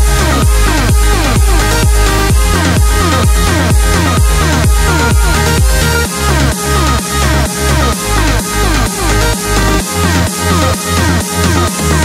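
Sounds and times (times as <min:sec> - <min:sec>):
deep kick drum beat: 0:00.0 - 0:12.0
electronic dance music: 0:00.0 - 0:12.0.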